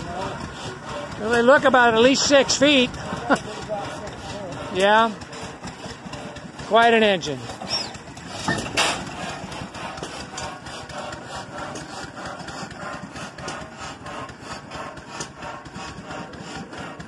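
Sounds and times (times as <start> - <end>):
large stationary engine running slowly: 0.0 - 17.0.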